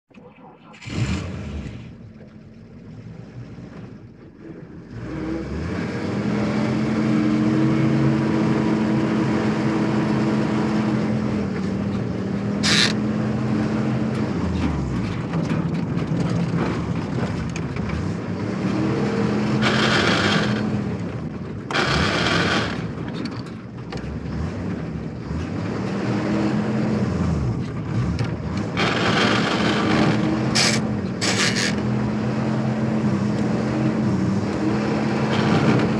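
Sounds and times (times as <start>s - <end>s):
truck engine running: 6.4s - 35.9s.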